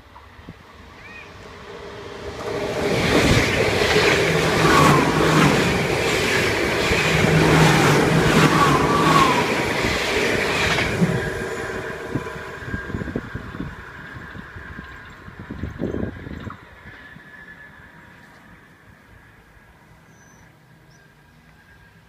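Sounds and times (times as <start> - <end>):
train wheels rumbling on rail: 0.0 - 20.0
train wheel squeals: 2.9 - 22.0.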